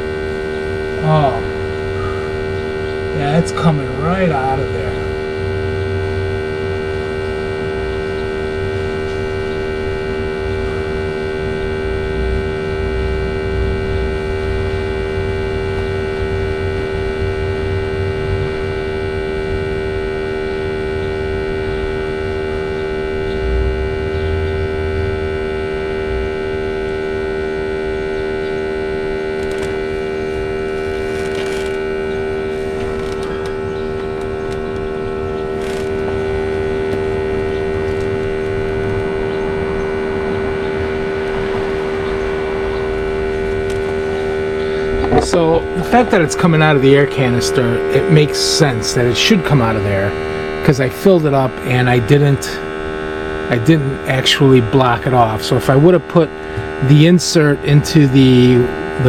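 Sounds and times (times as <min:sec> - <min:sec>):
air pump electric hum: 0:00.0 - 0:59.0.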